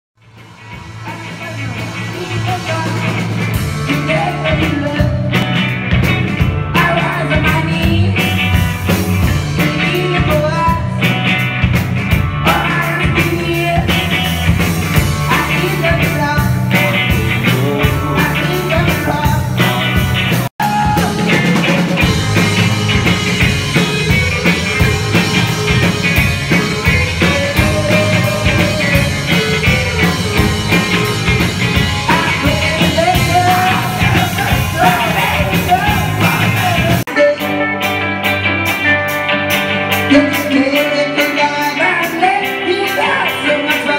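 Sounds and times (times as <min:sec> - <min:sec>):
drums: 0:00.1 - 0:43.9
electric guitars: 0:00.2 - 0:43.9
man singing: 0:01.0 - 0:05.6, 0:06.7 - 0:11.4, 0:12.4 - 0:38.4, 0:39.9 - 0:43.9.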